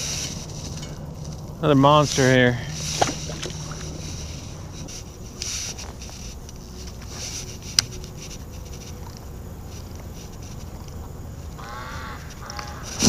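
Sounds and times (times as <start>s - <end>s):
fishing rod and reel rustles: 0.0s - 13.0s
water lapping around kayak: 0.0s - 13.0s
wind rumbling on microphone: 0.0s - 13.0s.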